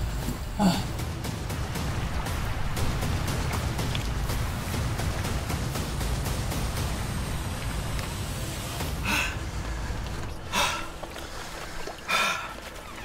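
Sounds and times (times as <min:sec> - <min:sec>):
steady low rumble: 0:00.0 - 0:12.6.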